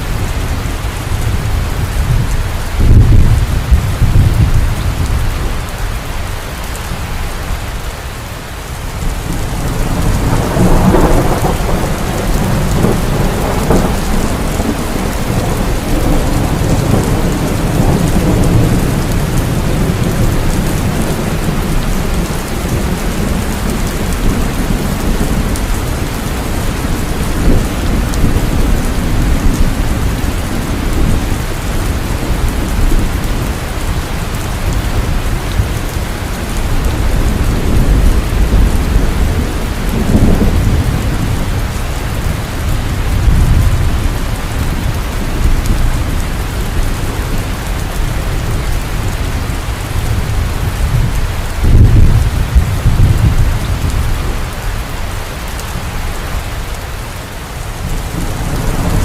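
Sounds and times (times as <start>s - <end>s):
thunder rumbling: 0.0s - 5.8s, 8.9s - 59.0s
heavy rain: 0.0s - 59.0s.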